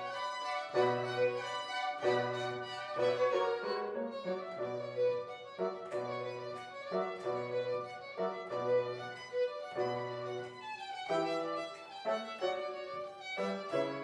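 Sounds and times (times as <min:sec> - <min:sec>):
violin melody: 0:00.0 - 0:14.0.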